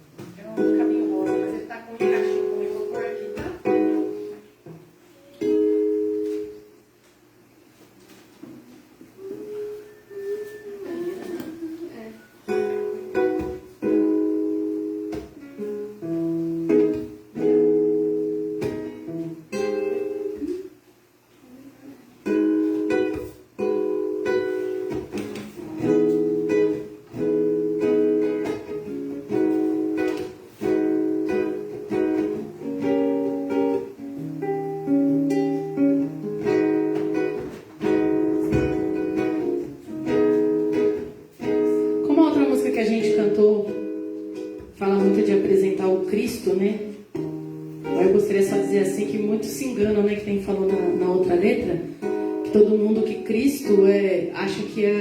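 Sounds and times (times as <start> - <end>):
acoustic guitar strumming chords: 0.0 - 7.0, 9.2 - 20.8, 22.2 - 53.7.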